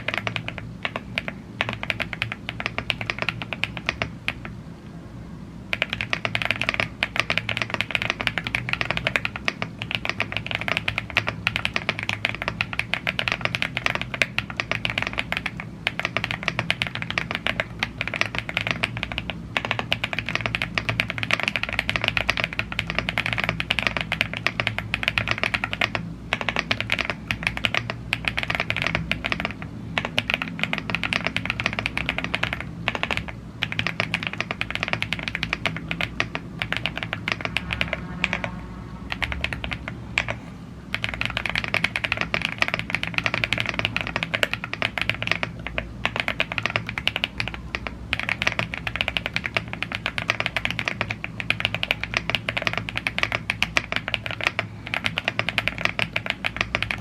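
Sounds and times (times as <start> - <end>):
fast mechanical keyboard typing: 0.0 - 4.6, 5.7 - 57.0.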